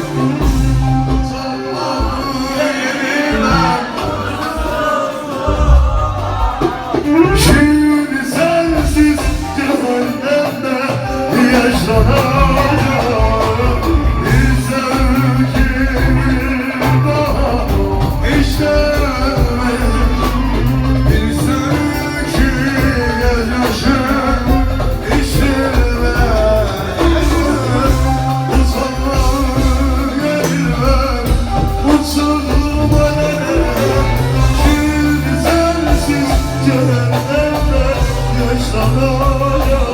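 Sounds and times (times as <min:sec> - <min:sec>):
live rock band music: 0:00.0 - 0:39.9
person singing: 0:00.0 - 0:39.9.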